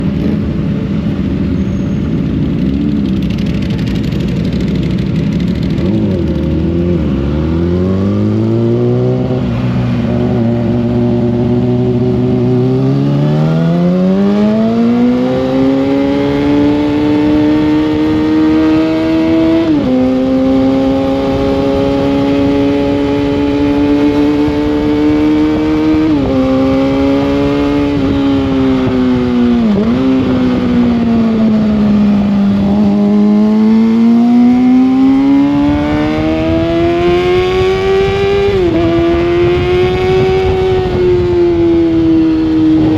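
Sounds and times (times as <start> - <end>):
motorcycle engine revving: 0.0 - 42.9
wind noise: 0.0 - 42.9.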